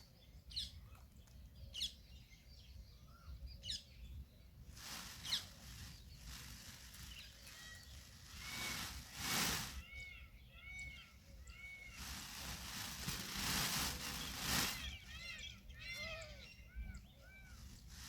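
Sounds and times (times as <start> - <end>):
birds chirping: 0.0 - 18.0
low background noise: 0.0 - 18.0.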